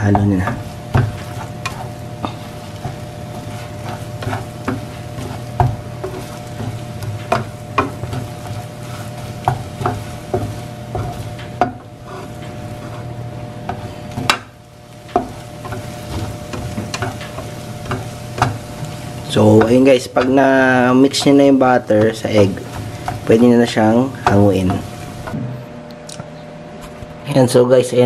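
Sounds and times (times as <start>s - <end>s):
eggs sizzling in butter: 0.0s - 25.4s
spatula scraping frying pan: 0.0s - 25.4s
steady hum: 0.0s - 28.0s.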